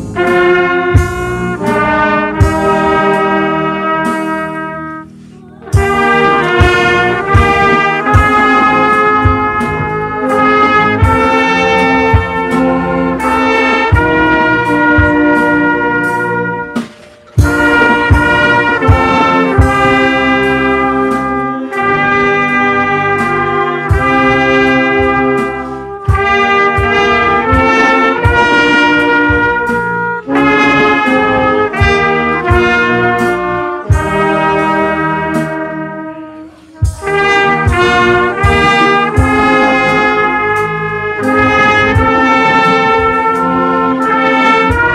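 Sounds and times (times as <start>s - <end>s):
trumpet playing held notes: 0.0s - 44.9s
deep drum thumps: 5.5s - 13.2s, 13.8s - 34.7s, 36.8s - 44.9s.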